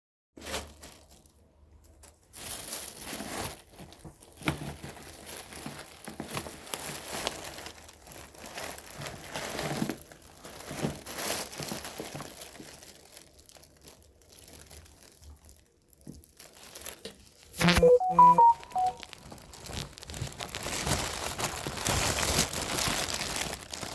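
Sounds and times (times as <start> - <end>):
crinkling and rustling: 0.4 - 17.5, 18.9 - 23.9.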